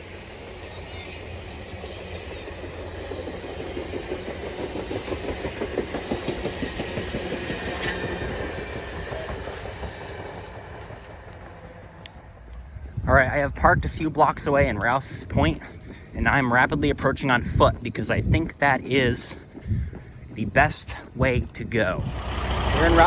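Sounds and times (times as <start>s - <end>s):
train rumble: 0.0s - 23.0s
train wheels clicking over rail joints: 1.7s - 12.8s, 14.1s - 23.0s.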